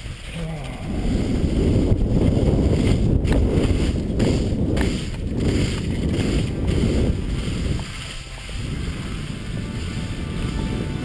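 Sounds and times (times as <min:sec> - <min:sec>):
wind buffeting microphone: 0:00.0 - 0:11.0
skis scraping over snow: 0:00.8 - 0:11.0.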